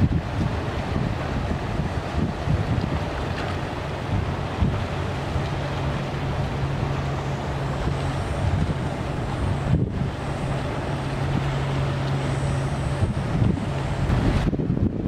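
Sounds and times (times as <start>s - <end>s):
boat engines droning: 0.0s - 15.0s
boat wake washing: 0.0s - 15.0s
wind buffeting microphone: 0.0s - 15.0s.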